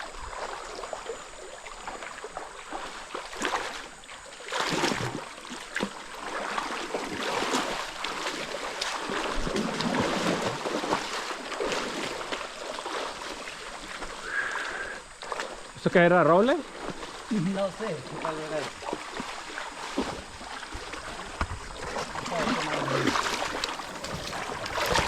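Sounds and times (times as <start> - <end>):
stream running water: 0.0 - 25.0
water splashing and sloshing: 0.0 - 25.0.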